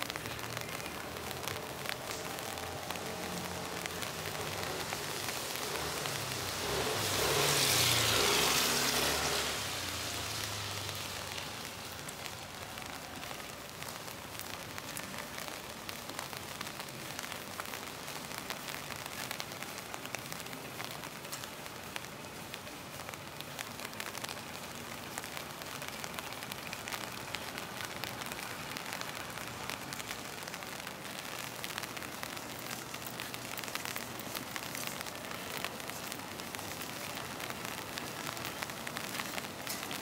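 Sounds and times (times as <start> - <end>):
rain on street: 0.0 - 40.0
tyres passing on wet road: 0.0 - 40.0.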